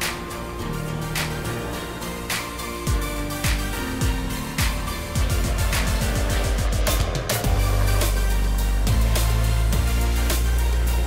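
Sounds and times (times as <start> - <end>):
deep bass music: 0.0 - 11.0.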